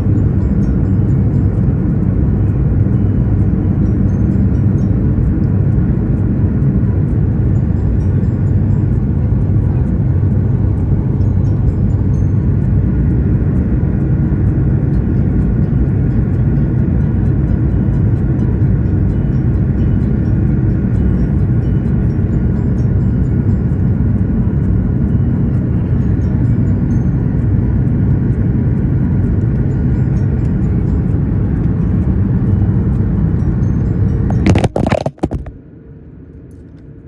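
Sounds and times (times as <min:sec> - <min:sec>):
jet engine cabin rumble: 0:00.0 - 0:36.0.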